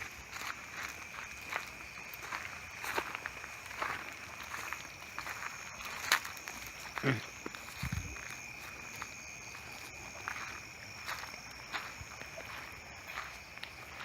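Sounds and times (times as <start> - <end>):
footsteps: 0.0 - 14.0
night insects droning: 0.0 - 14.0.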